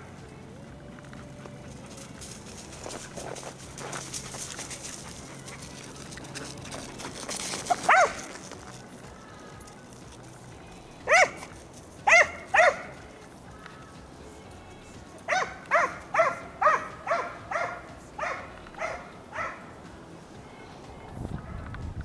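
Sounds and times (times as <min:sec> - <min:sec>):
hound baying and barking: 0:00.0 - 0:20.0.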